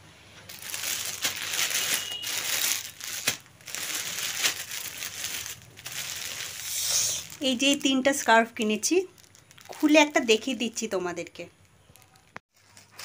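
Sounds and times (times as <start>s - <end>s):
packaging crinkling and rustling: 0.5s - 10.5s, 11.8s - 13.0s.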